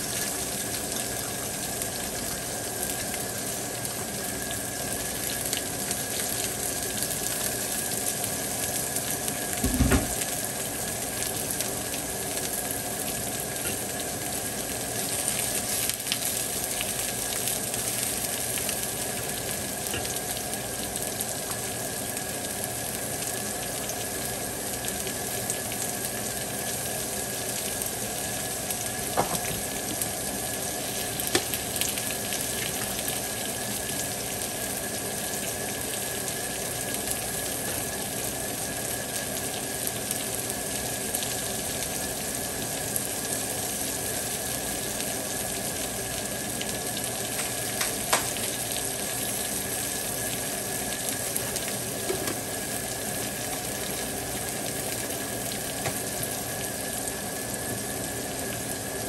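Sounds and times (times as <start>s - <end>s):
fish sizzling on a griddle: 0.0s - 59.0s.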